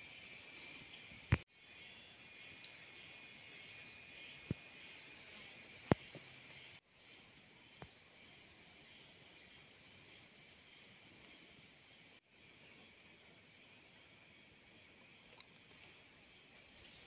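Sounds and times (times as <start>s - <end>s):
high-pitched outdoor hiss: 0.0s - 17.0s.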